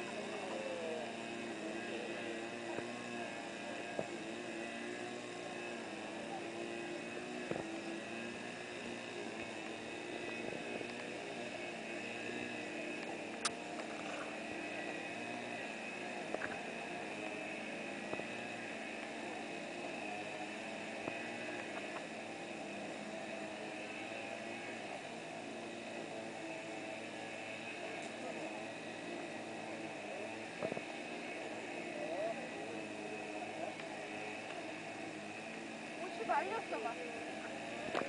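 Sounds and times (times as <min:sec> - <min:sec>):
steady motor hum: 0:00.0 - 0:38.0.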